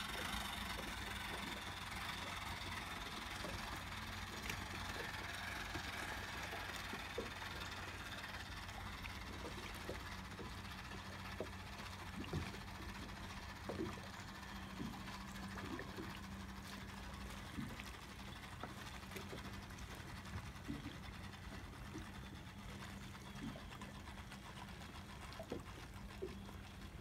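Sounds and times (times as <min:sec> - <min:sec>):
small waves lapping against boat: 0:00.0 - 0:27.0
steady low hum: 0:00.0 - 0:27.0.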